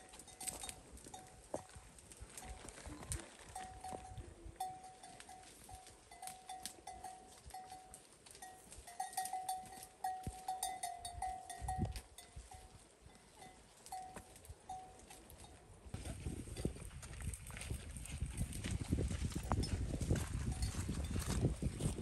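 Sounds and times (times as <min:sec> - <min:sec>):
cattle bell clinking: 0:00.0 - 0:17.6, 0:18.3 - 0:22.0.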